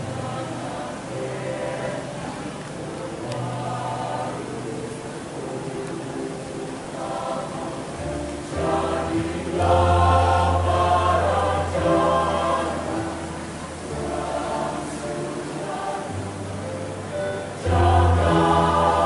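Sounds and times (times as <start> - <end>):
choir singing sustained chords: 0.0 - 19.0.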